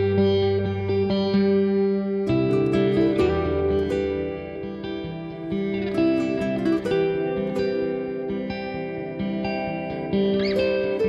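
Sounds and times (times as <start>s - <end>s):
plucked guitar instrumental music: 0.0s - 11.0s.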